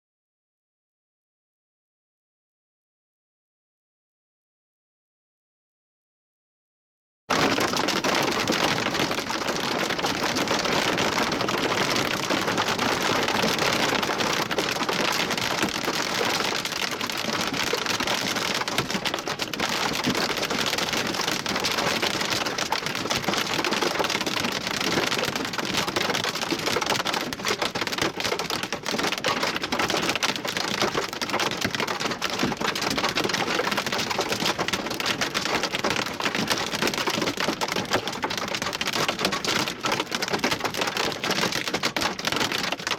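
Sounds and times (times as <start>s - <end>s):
hail and rain pelting down: 7.3s - 42.9s.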